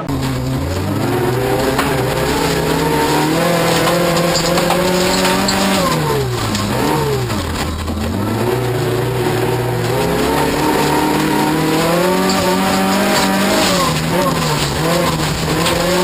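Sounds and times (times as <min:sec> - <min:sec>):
car engine pulling hard: 0:00.0 - 0:16.0.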